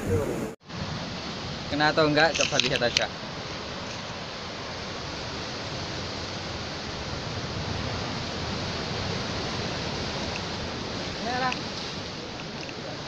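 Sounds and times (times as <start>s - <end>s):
sea surf breaking on rocks: 0.0s - 13.0s.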